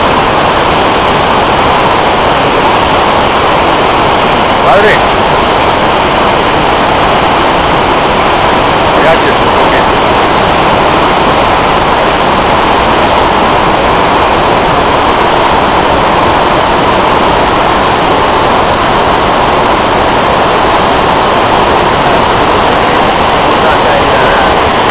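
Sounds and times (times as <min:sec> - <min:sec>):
whitewater rapids rushing: 0:00.0 - 0:24.9.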